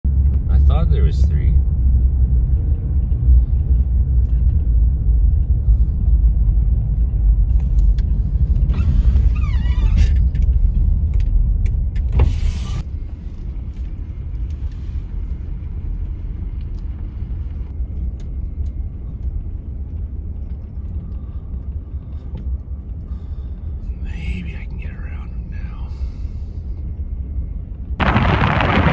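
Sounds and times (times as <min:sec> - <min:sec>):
car cabin road rumble: 0:00.0 - 0:28.9.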